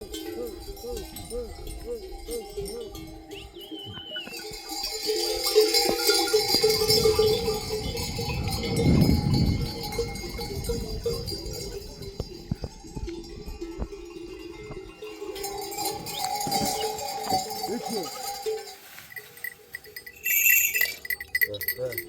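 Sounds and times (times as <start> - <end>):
livestock bells clinking: 0.0 - 22.0.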